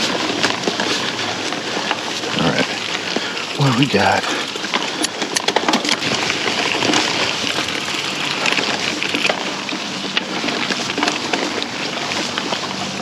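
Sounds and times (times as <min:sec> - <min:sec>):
bike clicks and rattles: 0:00.0 - 0:03.6, 0:04.3 - 0:13.0
bike tyres rolling on gravel: 0:00.0 - 0:13.0.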